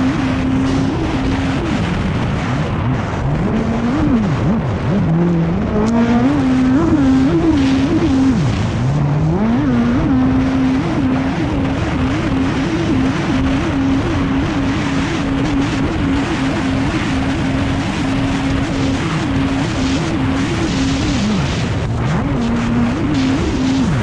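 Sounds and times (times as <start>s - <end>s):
jet ski engine running hard: 0.0s - 24.0s
rush of spray and wind: 0.0s - 24.0s.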